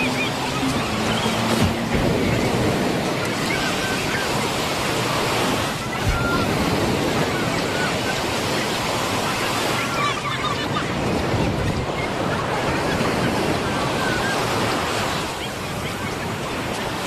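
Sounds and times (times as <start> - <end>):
faint voices: 0.0 - 17.0
ocean surf rushing: 0.0 - 17.0.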